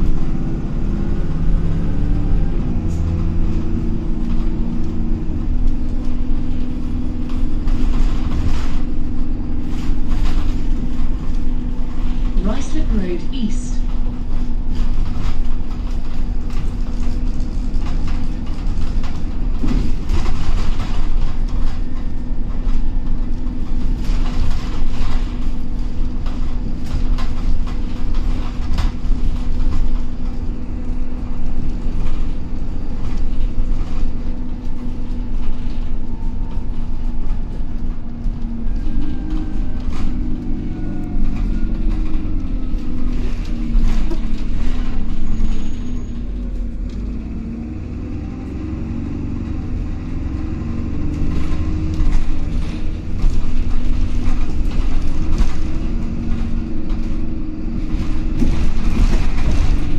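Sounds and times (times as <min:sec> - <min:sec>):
bodywork rattles and knocks: 0:00.0 - 0:13.2, 0:13.8 - 0:48.0, 0:48.6 - 0:59.9
diesel bus engine drone: 0:00.0 - 0:59.9
road rumble: 0:00.0 - 0:59.9.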